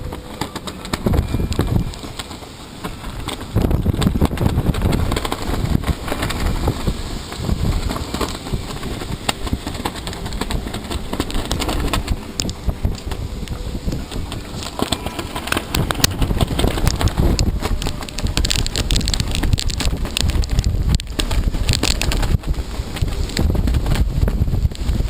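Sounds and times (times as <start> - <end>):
rain: 0.0 - 25.0
wind buffeting microphone: 0.0 - 25.0.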